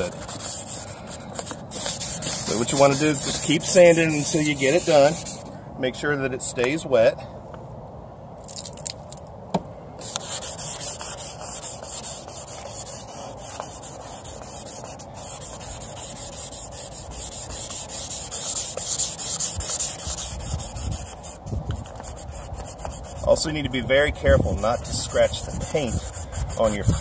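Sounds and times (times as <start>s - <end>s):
sandpaper rubbing on plastic: 0.0s - 5.5s, 10.0s - 27.0s.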